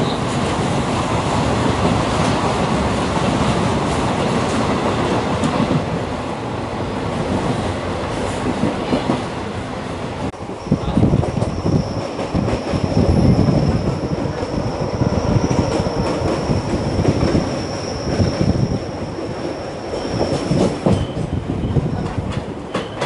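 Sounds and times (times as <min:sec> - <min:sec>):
train wheels rumbling and clattering: 0:00.0 - 0:23.0.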